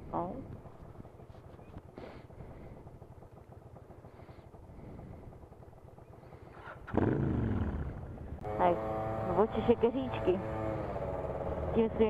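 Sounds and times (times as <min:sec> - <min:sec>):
motorcycle engine revving: 0:00.0 - 0:12.0
motorcycle engines idling: 0:00.0 - 0:12.0.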